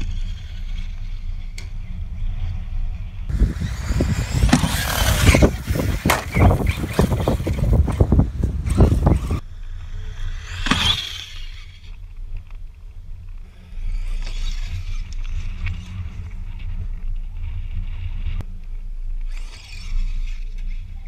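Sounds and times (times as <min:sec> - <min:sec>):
toy truck tyres on gravel: 0:00.0 - 0:21.0
wind rumbling on microphone: 0:00.0 - 0:21.0.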